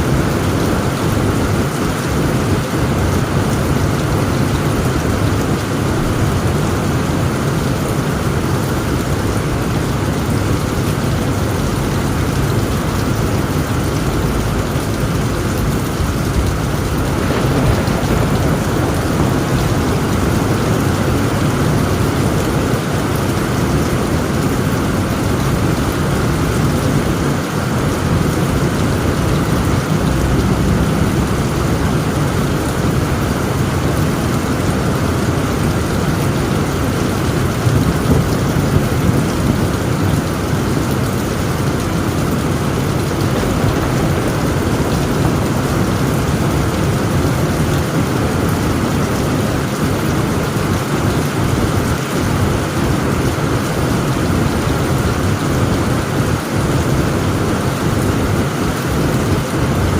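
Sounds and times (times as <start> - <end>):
heavy rain drumming on a tent: 0.0 - 59.9
low rumble of thunder: 0.0 - 59.9.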